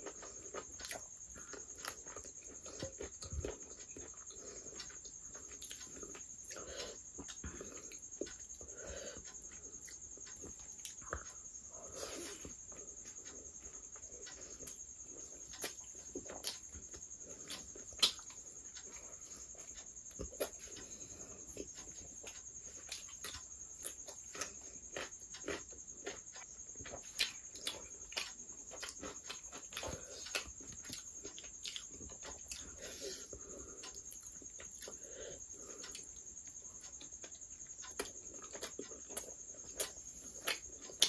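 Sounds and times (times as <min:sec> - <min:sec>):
wet chewing and lip-smacking: 0:00.0 - 0:41.0.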